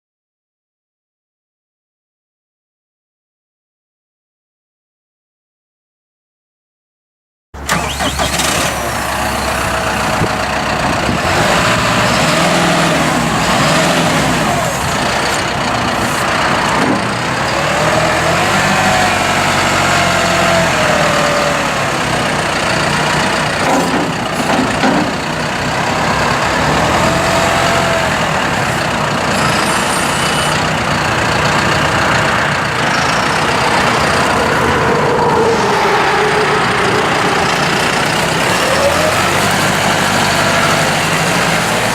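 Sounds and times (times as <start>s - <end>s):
tractor diesel engine running: 7.6s - 41.9s.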